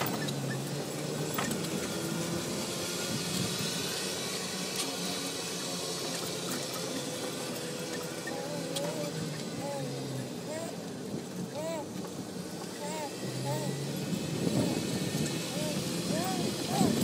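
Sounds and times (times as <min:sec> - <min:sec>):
small vehicle engine running: 0:00.0 - 0:17.0.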